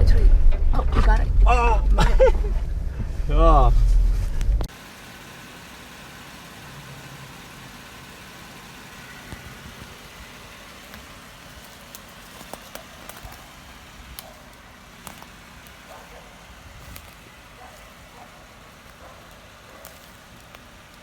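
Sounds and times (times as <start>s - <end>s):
vehicle engine running low: 0.0s - 21.0s.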